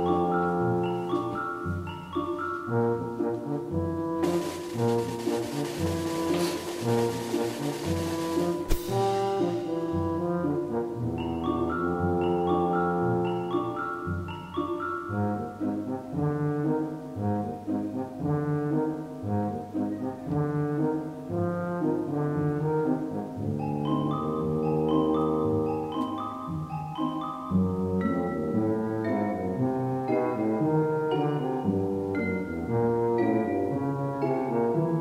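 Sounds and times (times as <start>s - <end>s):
instrumental background music: 0.0s - 35.0s.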